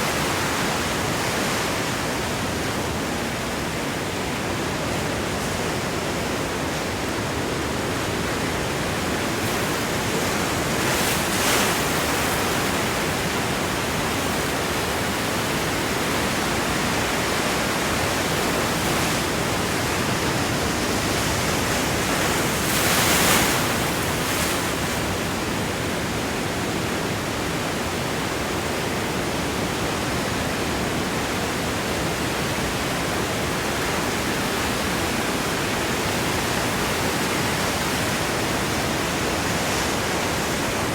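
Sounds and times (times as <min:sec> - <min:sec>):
ocean waves washing against rocks: 0:05.2 - 0:40.9.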